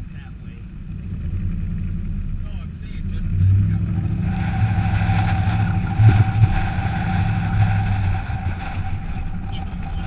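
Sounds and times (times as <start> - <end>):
car engine and tyres on snow: 0.0 - 10.0.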